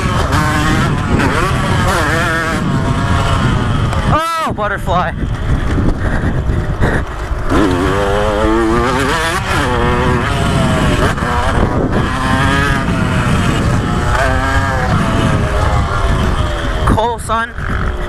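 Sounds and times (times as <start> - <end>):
dirt bike engine revving: 0.0 - 18.0
wind rumble on microphone: 0.0 - 18.0.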